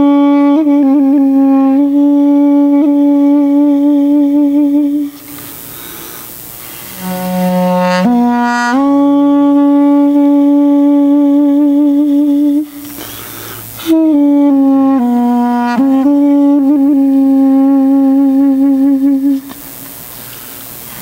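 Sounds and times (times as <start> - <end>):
solo wind instrument melody: 0.0 - 5.4, 6.9 - 13.2, 13.8 - 19.5.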